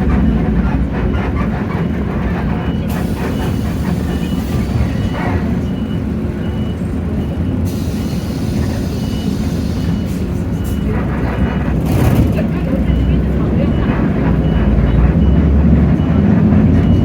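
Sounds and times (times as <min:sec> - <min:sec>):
diesel bus engine running: 0:00.0 - 0:17.0.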